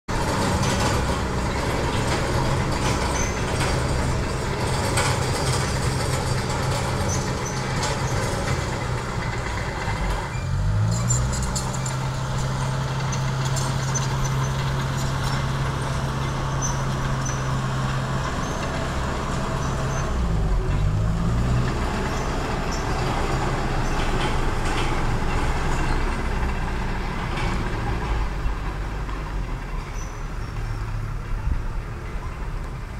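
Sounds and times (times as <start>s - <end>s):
bulldozer diesel engine revving: 0.1s - 32.9s
excavator diesel engine running: 0.1s - 32.9s.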